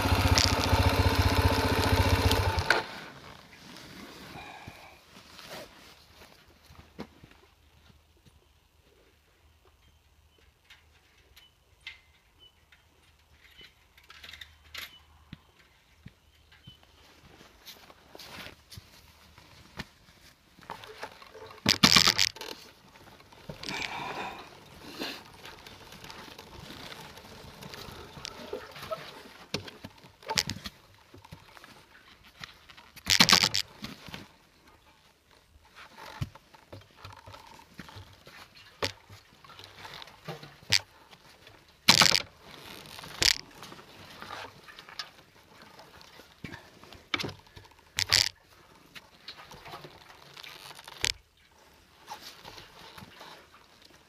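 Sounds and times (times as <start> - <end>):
motorcycle jolting on dirt trail: 0.0 - 7.0, 17.0 - 54.0.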